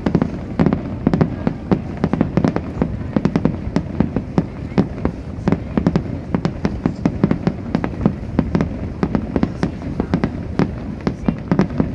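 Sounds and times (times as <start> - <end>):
fireworks bangs: 0.0 - 11.9.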